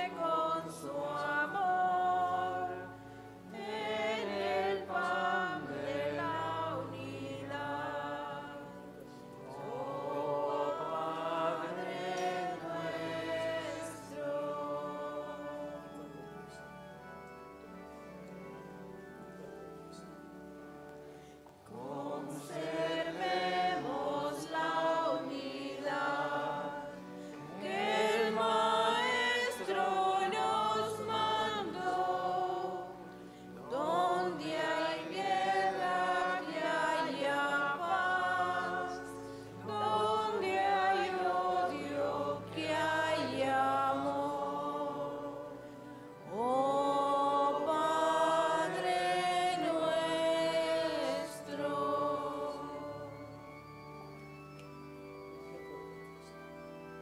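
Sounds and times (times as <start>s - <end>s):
choir singing a hymn: 0.0s - 17.0s, 18.6s - 54.5s.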